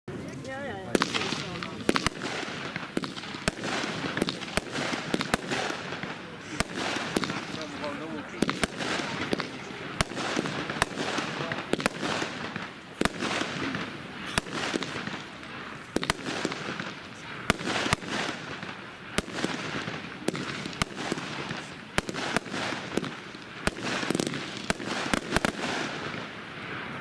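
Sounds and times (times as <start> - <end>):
firework bangs: 0.2 - 27.0
firework hissing: 0.2 - 27.0.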